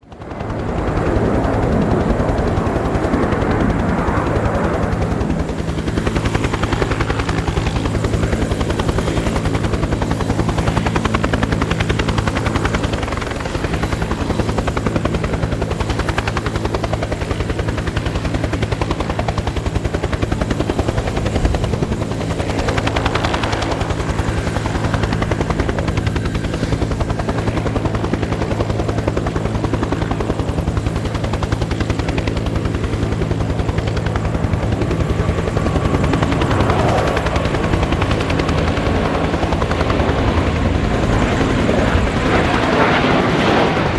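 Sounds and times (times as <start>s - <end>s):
helicopter engine hum: 0.0s - 43.9s
helicopter rotor beat: 0.0s - 43.9s.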